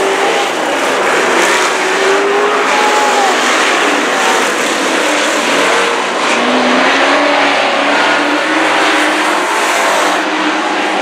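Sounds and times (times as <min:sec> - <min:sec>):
race truck engines revving: 0:00.0 - 0:11.0.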